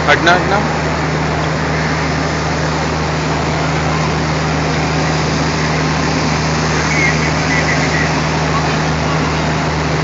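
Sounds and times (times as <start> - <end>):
diesel locomotive engine drone: 0.0 - 10.0.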